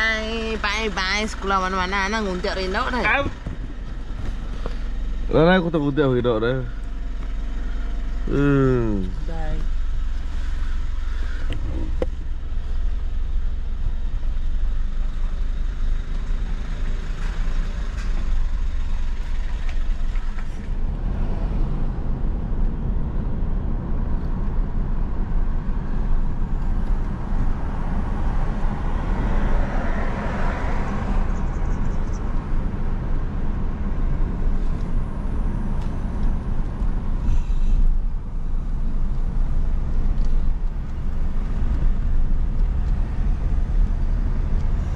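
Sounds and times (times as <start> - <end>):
car road noise rumble: 0.0 - 44.9.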